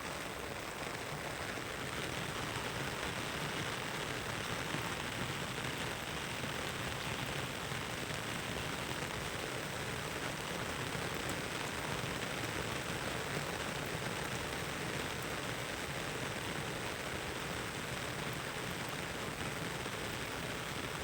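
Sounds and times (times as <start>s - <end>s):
heavy rain falling: 0.1s - 21.0s.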